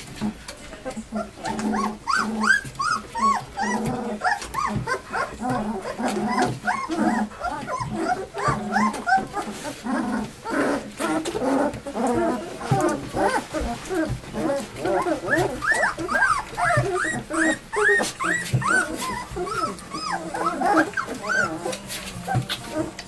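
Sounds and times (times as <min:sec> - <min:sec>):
puppies squeaking and whining: 0:00.1 - 0:23.0.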